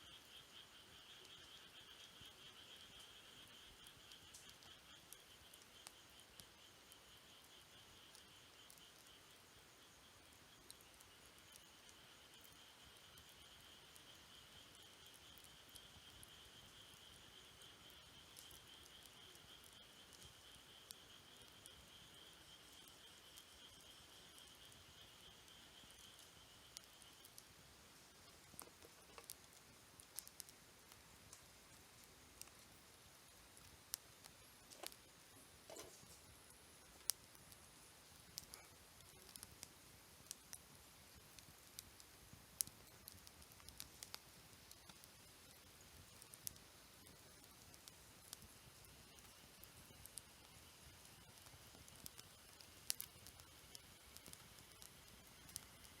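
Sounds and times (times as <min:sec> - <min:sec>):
campfire crackling: 0:00.0 - 0:56.0
insects trilling: 0:00.0 - 0:56.0
burning wood popping: 0:00.2 - 0:56.0.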